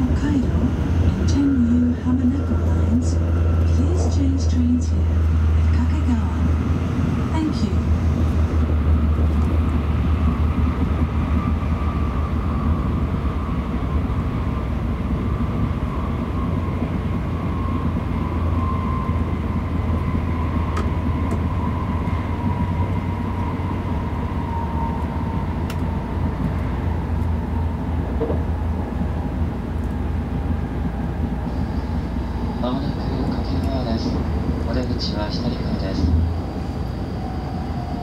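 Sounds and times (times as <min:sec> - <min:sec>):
train low rumble: 0:00.0 - 0:38.0.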